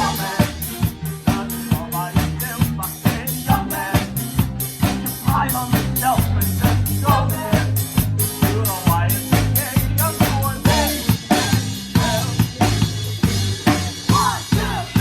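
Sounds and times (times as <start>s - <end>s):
drum kit beat: 0.0s - 15.0s.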